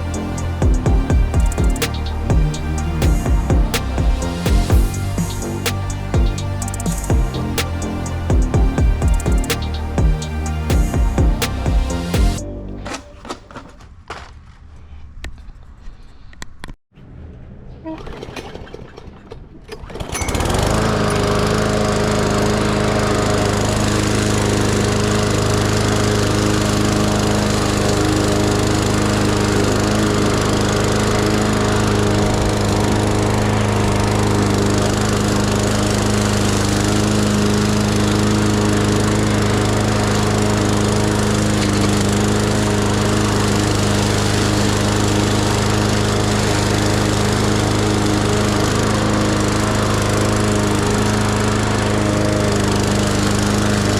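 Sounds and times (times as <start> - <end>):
lawn mower engine running: 0.0 - 13.7, 20.2 - 53.9.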